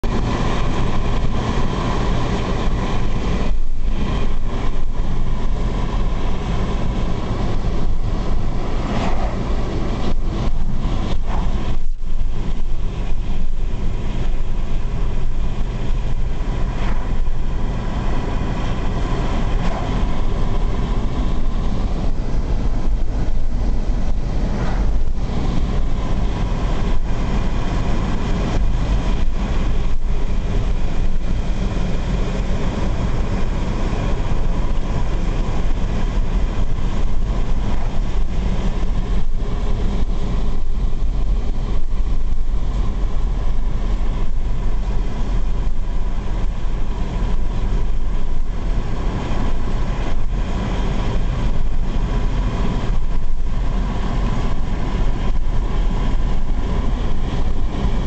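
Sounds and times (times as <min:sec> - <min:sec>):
wind and road noise through car window: 0:00.0 - 0:58.0.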